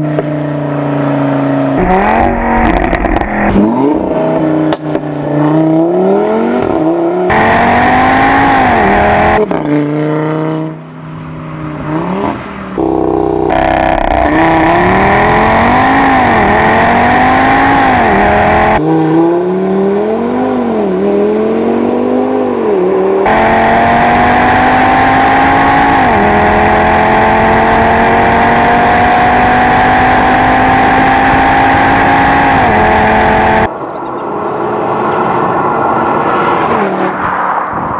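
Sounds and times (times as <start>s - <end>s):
car engine accelerating hard: 0.0s - 37.9s.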